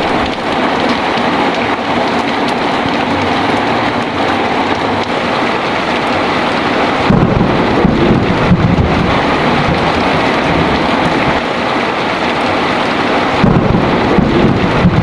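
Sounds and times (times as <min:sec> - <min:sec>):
heavy rain falling: 0:00.0 - 0:15.0
thunder rumbling: 0:00.0 - 0:15.0.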